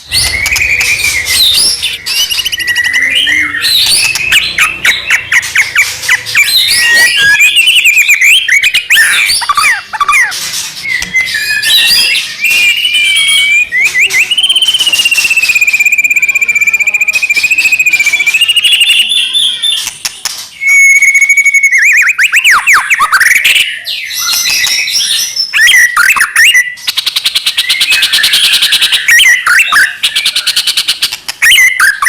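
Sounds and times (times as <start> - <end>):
bird singing varied song: 0.0 - 32.0.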